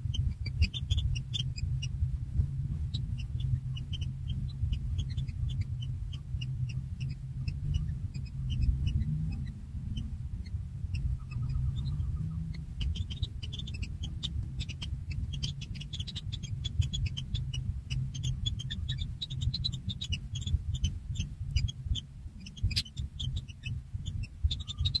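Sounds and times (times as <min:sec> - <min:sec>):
nestling birds chirping: 0:00.0 - 0:25.0
steady low rumble: 0:00.0 - 0:25.0.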